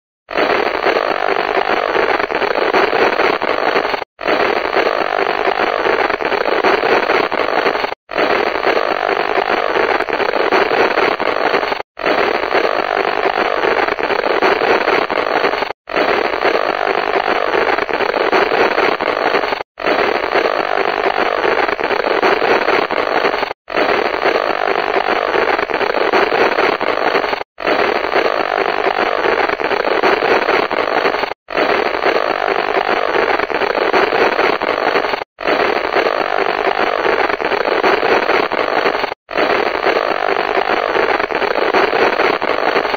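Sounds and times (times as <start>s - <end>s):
radio static hiss: 0.3s - 42.9s.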